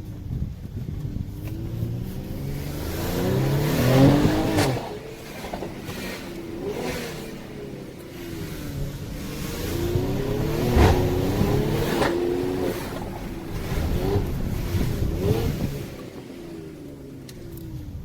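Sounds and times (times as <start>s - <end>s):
car engine accelerating: 0.0s - 18.0s
sharp exhaust crack: 1.3s - 16.4s.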